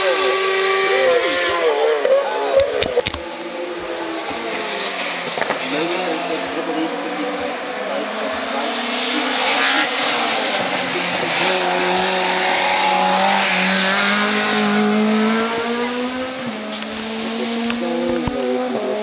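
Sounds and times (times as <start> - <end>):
race car engine at full speed: 0.0 - 19.0.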